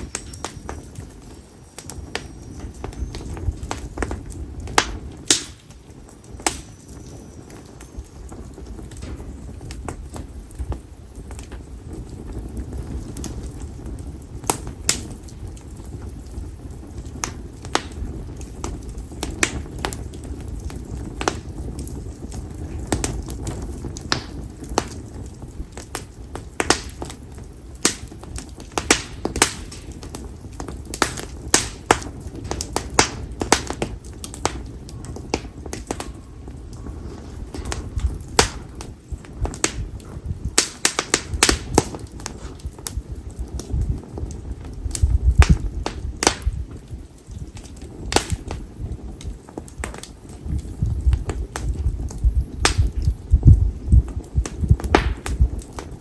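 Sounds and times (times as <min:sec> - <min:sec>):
campfire crackling and popping: 0:00.0 - 0:56.0
low steady fire rush: 0:00.0 - 0:56.0.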